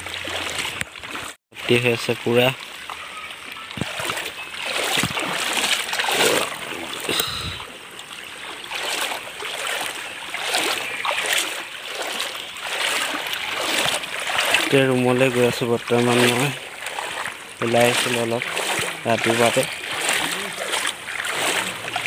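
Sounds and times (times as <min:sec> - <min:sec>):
footsteps wading through water: 0:00.0 - 0:22.0.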